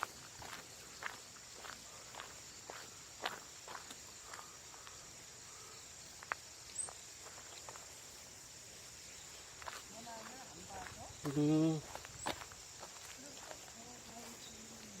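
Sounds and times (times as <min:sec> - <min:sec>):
footsteps crunching on ground: 0:00.0 - 0:15.0
insects chorus: 0:00.0 - 0:15.0.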